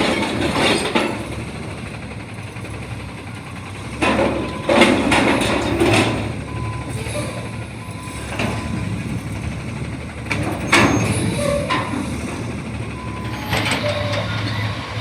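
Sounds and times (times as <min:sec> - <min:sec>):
garbage truck engine humming: 0:00.0 - 0:15.0.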